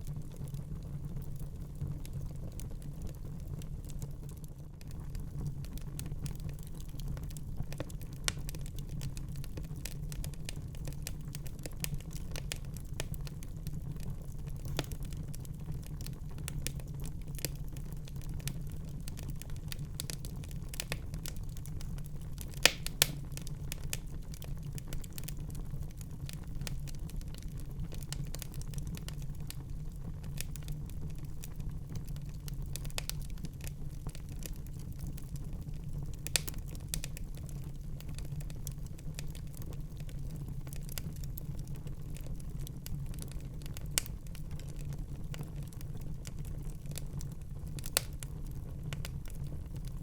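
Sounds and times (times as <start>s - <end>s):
fire rumbling: 0.0s - 50.0s
wood fire popping: 0.0s - 50.0s.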